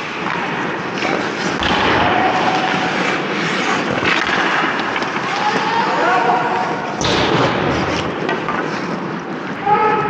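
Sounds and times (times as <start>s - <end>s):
skates scraping on ice: 0.0s - 10.0s.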